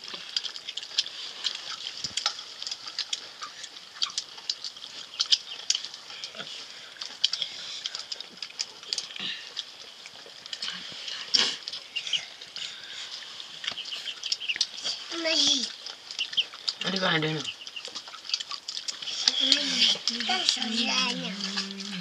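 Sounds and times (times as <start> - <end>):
chewing smacks: 0.0 - 22.0.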